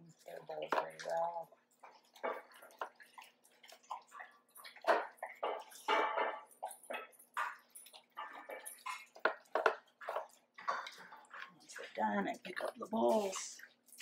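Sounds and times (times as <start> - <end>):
dogs licking metal bowls: 0.0 - 14.0.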